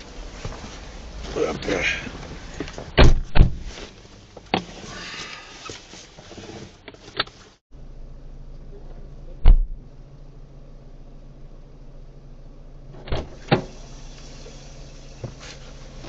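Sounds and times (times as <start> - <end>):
car engine and road hum: 0.0 - 16.0.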